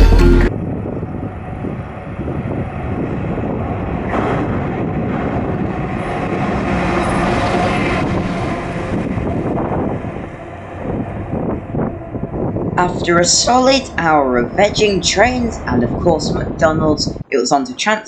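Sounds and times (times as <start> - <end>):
train rumbling: 0.0 - 17.3.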